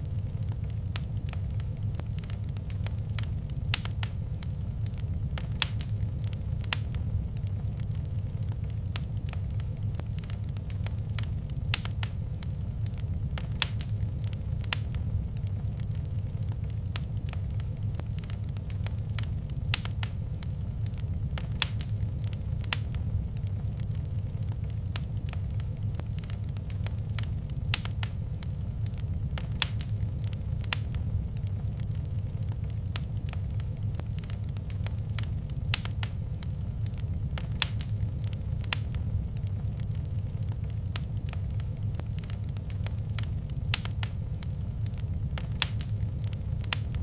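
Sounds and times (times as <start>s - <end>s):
low fire rumble: 0.0s - 47.0s
wood fire crackling and popping: 0.0s - 47.0s.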